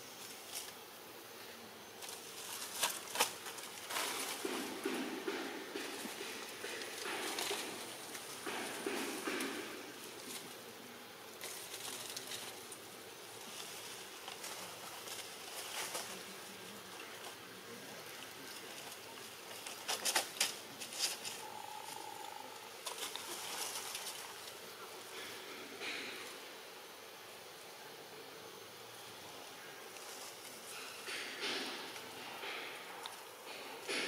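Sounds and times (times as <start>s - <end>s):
leaves and twigs rustling: 0.0s - 34.0s.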